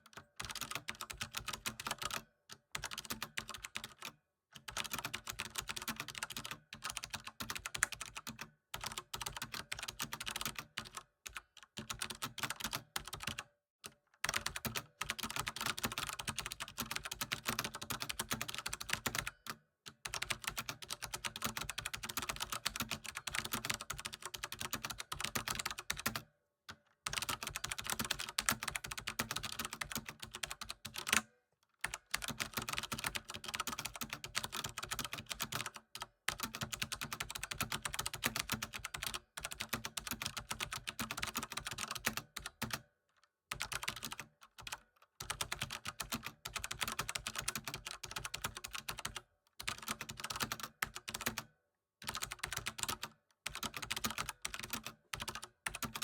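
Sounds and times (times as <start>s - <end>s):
typing on computer keyboard: 0.0s - 42.9s, 43.5s - 56.0s.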